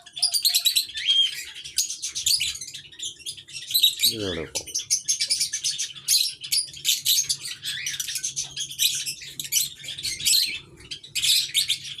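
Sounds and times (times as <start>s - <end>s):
small birds chattering: 0.0s - 12.0s.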